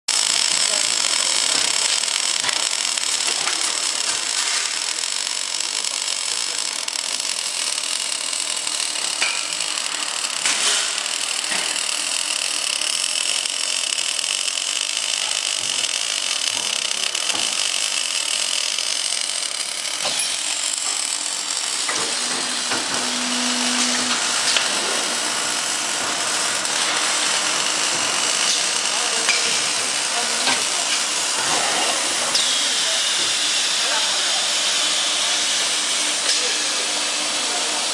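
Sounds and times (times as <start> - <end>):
tube cutting machine whirring: 0.1 - 37.9.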